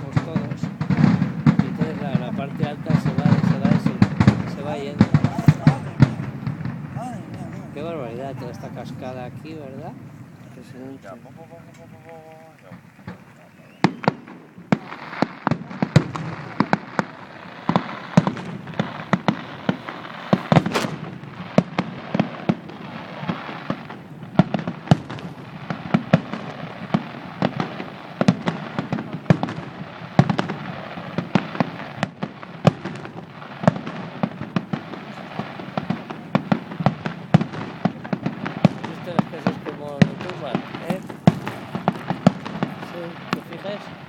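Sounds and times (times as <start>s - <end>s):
continuous fireworks crackle: 0.0s - 44.0s
fireworks bangs and cracks: 0.0s - 44.0s.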